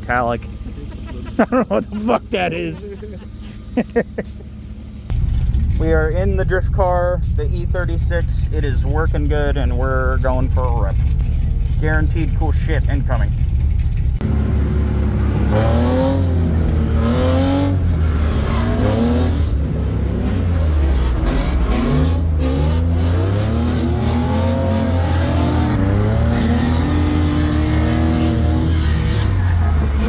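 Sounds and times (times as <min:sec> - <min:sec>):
car engine revving hard: 0:00.0 - 0:30.0.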